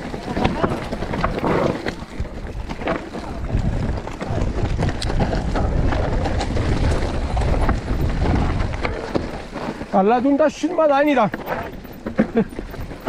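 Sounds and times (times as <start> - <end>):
bike clicks and rattles over stones: 0.0 - 13.0
wind rumbling on microphone: 0.0 - 13.0.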